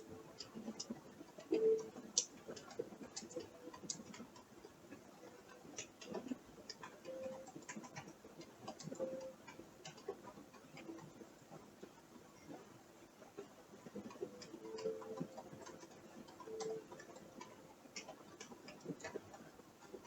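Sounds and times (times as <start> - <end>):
creaking clicks and ticks: 0.0 - 20.0.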